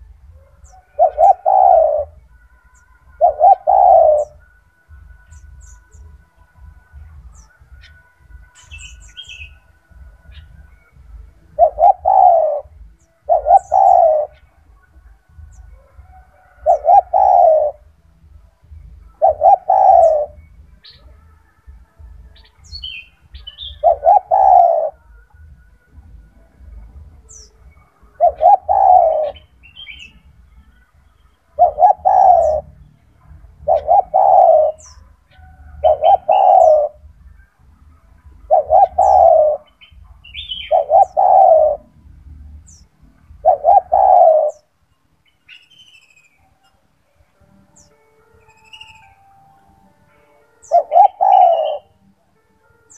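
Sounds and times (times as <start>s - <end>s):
dove cooing: 0.0s - 21.3s, 22.0s - 30.4s, 31.5s - 44.7s, 50.6s - 52.0s.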